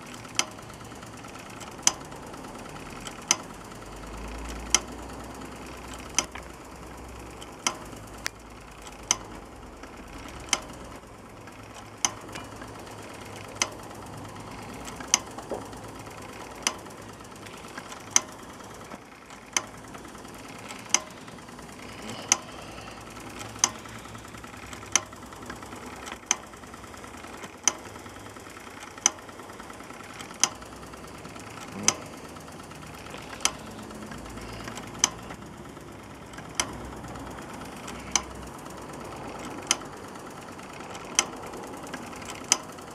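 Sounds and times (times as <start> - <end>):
toy steam engine running: 0.0 - 42.9.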